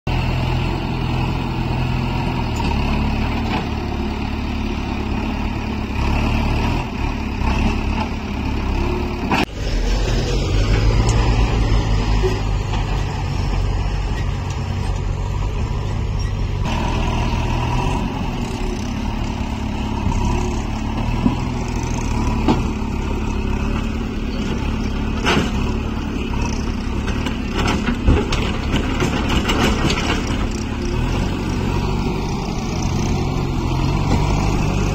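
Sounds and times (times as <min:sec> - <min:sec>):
diesel engines running: 0:00.1 - 0:34.9.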